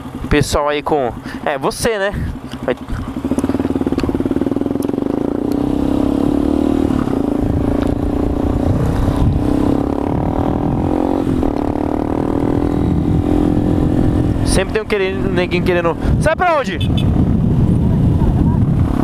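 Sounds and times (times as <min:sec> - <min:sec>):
motorcycle engine running: 0:00.0 - 0:19.0
wind rumbling on microphone: 0:02.1 - 0:19.0.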